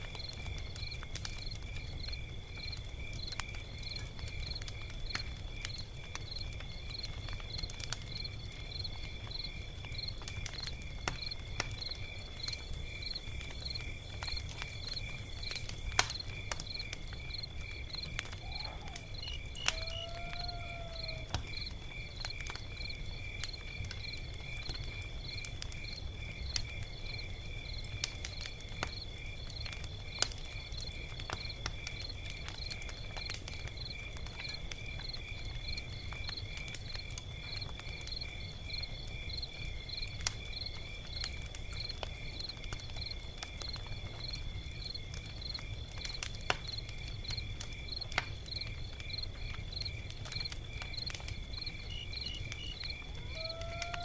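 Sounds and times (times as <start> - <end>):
crickets chirping: 0.0 - 54.0
log fire crackling: 0.0 - 54.0.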